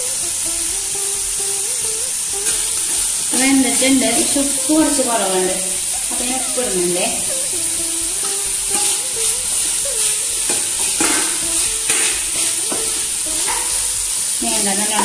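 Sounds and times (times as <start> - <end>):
frying sizzle: 0.0 - 15.0
spatula scraping frying pan: 0.0 - 15.0.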